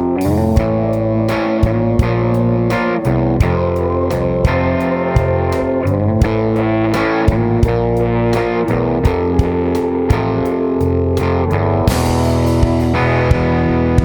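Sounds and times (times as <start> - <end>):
distorted electric guitar chords: 0.0 - 14.0
steady drum beat: 0.0 - 14.0.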